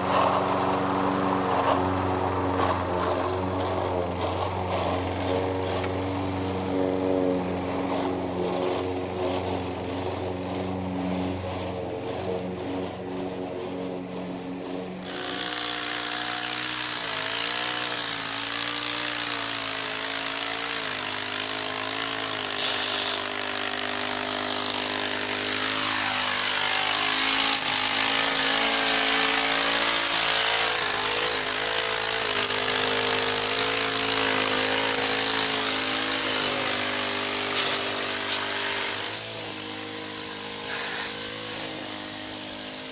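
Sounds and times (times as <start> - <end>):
loud harsh grinding: 0.0 - 10.2, 15.0 - 42.9
lawn mower engine running: 0.0 - 42.9.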